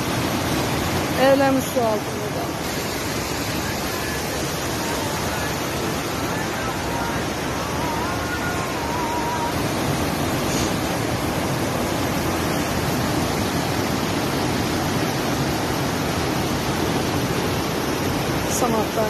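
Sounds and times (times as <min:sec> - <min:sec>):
flood water rushing: 0:00.0 - 0:19.0.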